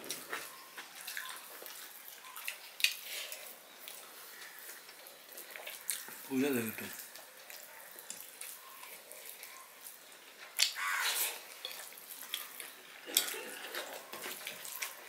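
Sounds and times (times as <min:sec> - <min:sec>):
chewing and lip smacks: 0:00.0 - 0:06.2, 0:06.8 - 0:15.0.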